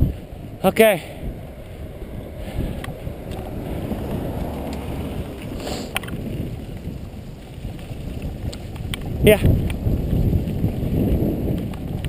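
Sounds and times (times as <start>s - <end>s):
wheels rumbling over dirt trail: 0.0s - 12.0s
wind on microphone: 0.0s - 12.0s.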